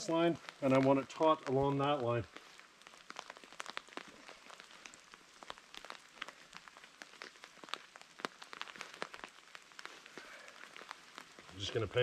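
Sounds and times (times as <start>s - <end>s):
faint steady hiss: 0.0s - 12.0s
raindrops tapping: 0.0s - 12.0s.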